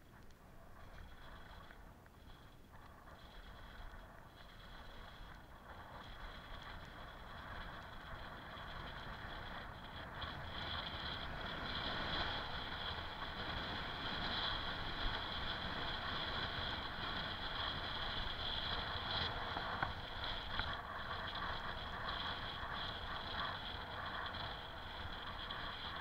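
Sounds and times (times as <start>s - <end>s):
bicycle tyres on concrete slabs: 0.0s - 26.0s.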